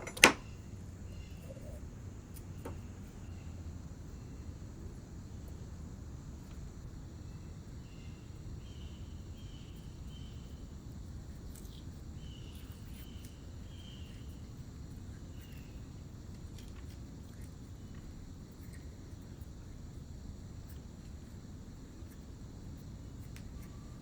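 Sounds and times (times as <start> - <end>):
insect chirping: 0.0 - 24.0
steady low hum: 0.0 - 24.0.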